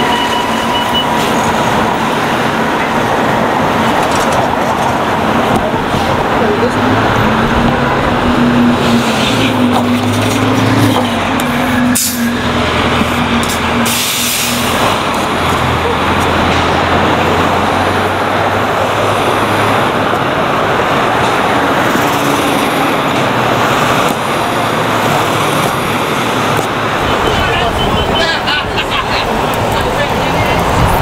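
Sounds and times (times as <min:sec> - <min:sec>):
bus engine humming: 0:00.0 - 0:31.0
street traffic: 0:00.0 - 0:31.0.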